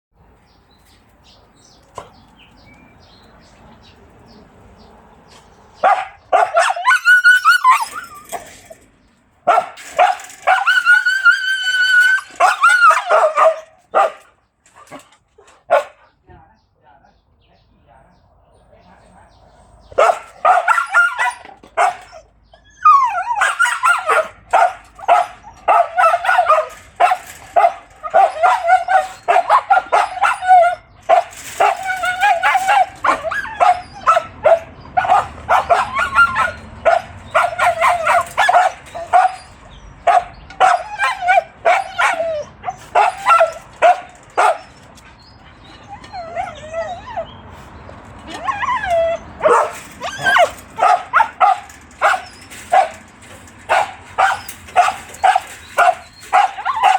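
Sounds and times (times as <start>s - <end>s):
dogs whining and barking: 5.8s - 8.9s, 9.5s - 15.9s, 19.7s - 56.9s.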